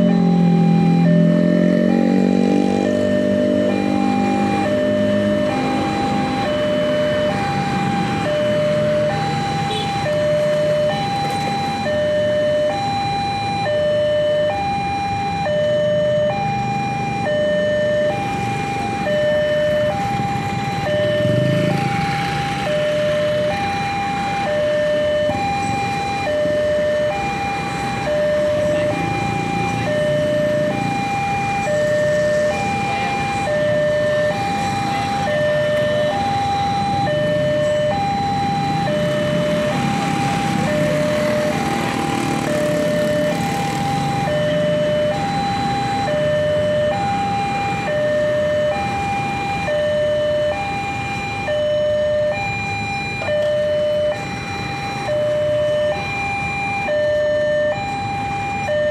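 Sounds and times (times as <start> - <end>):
level-crossing alarm two tones: 0.0 - 58.9
motorbike and car traffic: 0.0 - 58.9.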